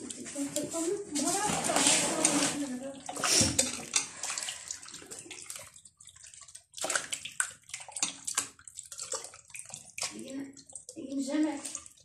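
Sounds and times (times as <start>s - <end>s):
hands squelching chicken in marinade: 0.0s - 12.0s.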